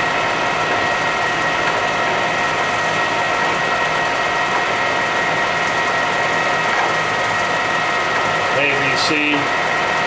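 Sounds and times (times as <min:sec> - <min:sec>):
lathe gears whining: 0:00.0 - 0:10.0.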